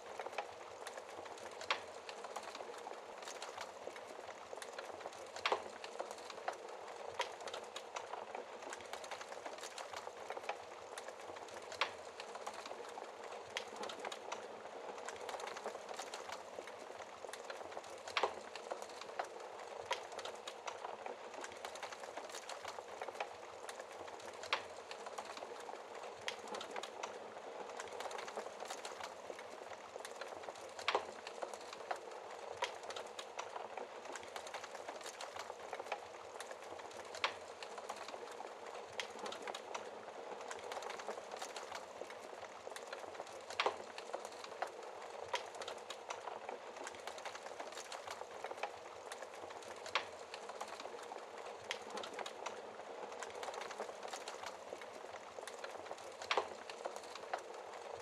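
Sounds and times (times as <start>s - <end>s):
fire hissing and crackling: 0.0s - 58.0s.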